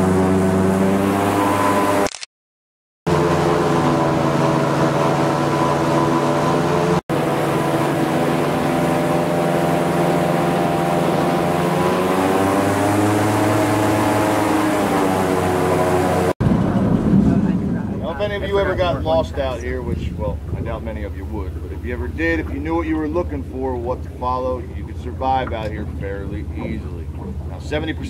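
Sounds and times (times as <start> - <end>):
airboat engine and propeller drone: 0.0 - 2.2, 3.1 - 28.0.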